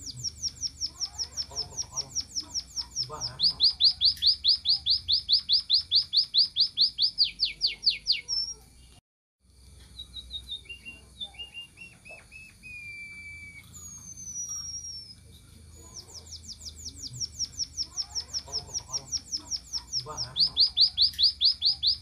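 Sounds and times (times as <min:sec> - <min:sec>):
bird singing whistled notes: 0:00.0 - 0:08.7, 0:09.9 - 0:22.0.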